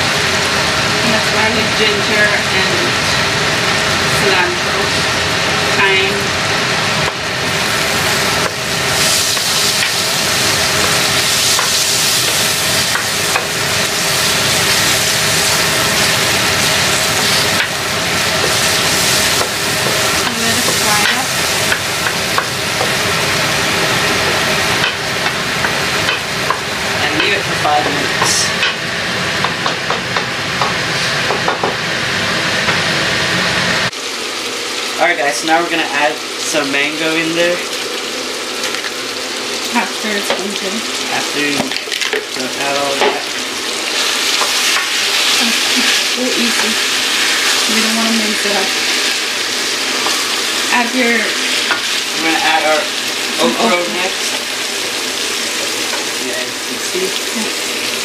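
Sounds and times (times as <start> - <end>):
paste frying in hot oil: 0.0 - 58.0.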